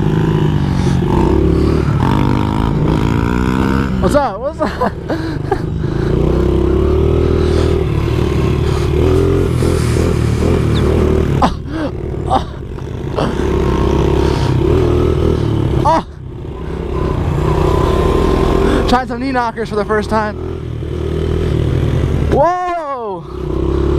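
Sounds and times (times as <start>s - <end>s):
small motorbike engine: 0.0s - 23.9s.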